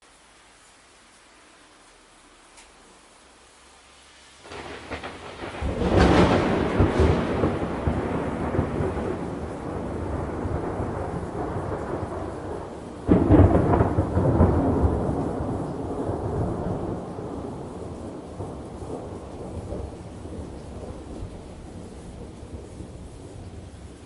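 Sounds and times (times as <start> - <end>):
rain: 0.0 - 24.0
thunder rumbling: 4.4 - 24.0.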